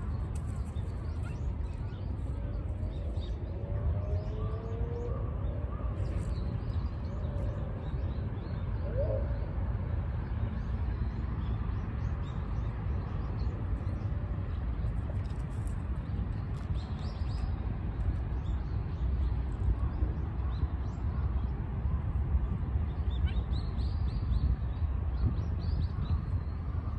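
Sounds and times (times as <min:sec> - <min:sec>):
steady low rumble: 0:00.0 - 0:26.9.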